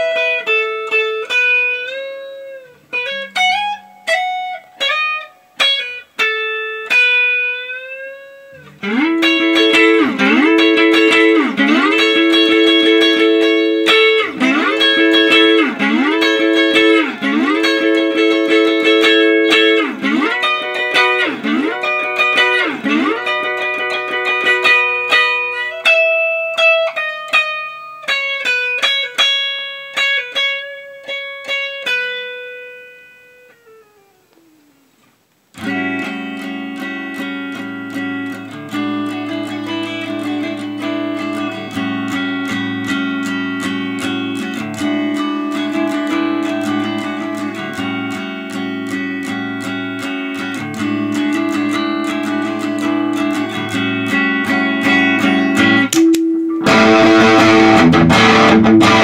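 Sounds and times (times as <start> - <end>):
electric guitar playing: 0.0 - 59.0.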